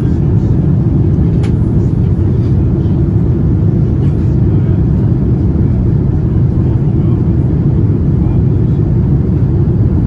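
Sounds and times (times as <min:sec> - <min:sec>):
airplane engine rumble in cabin: 0:00.0 - 0:10.0.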